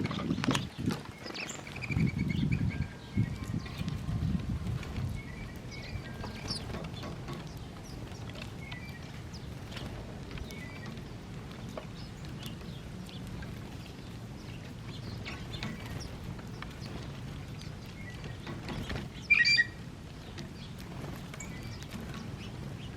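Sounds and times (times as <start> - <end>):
small songbirds chirping: 0.0 - 22.9
steady low rumble: 0.0 - 22.9.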